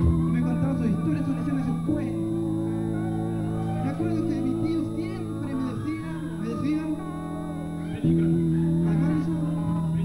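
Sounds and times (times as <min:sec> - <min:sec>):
electric guitar picked notes: 0:00.0 - 0:10.0.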